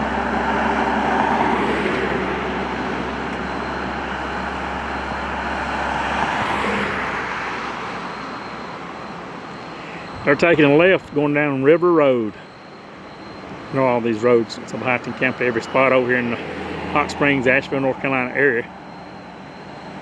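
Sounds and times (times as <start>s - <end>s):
heavy vehicles passing on highway: 0.0s - 20.0s.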